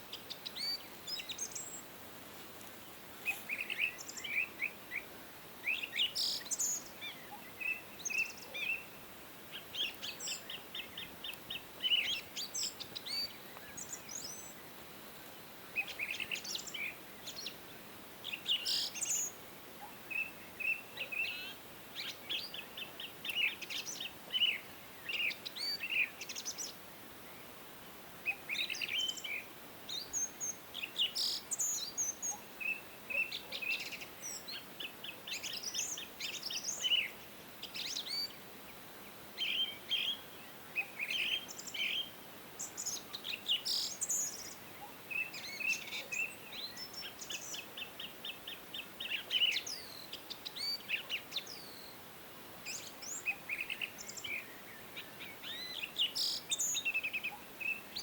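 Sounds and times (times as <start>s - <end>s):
faint steady hiss: 0.0s - 58.0s
songbirds singing and chirping: 0.0s - 58.0s.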